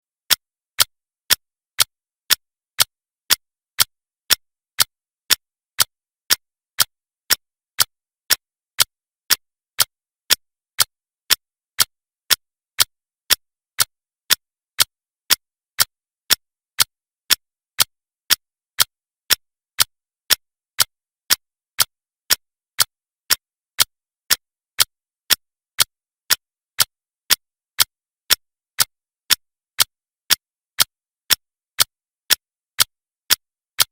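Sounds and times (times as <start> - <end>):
clock ticking: 0.3 - 33.9.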